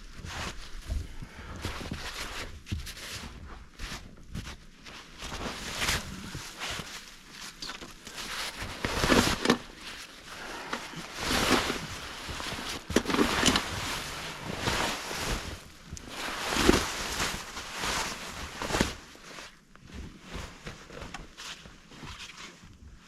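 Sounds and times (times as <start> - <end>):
footsteps crunching through snow: 0.0 - 22.4.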